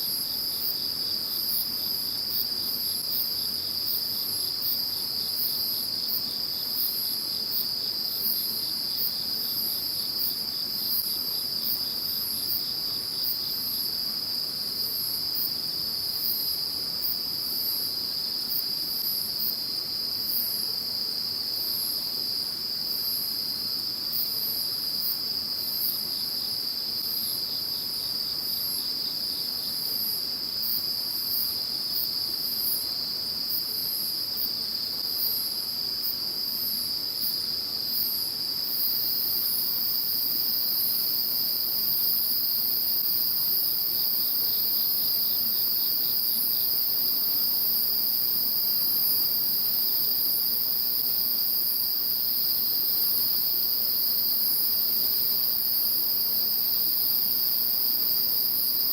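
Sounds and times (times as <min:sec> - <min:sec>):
insect chirping and buzzing: 0:00.0 - 0:58.9.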